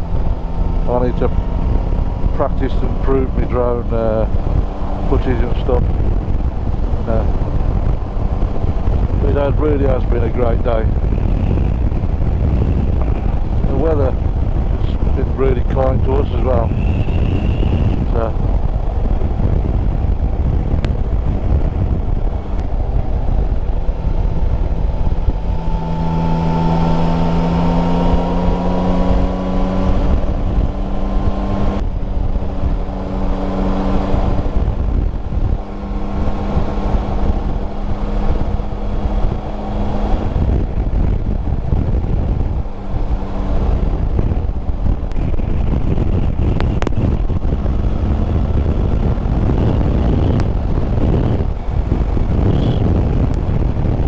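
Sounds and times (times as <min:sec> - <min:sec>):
heavy wind: 0:00.0 - 0:54.0
motorcycle engine cruising: 0:00.0 - 0:54.0
road rumble: 0:00.0 - 0:54.0.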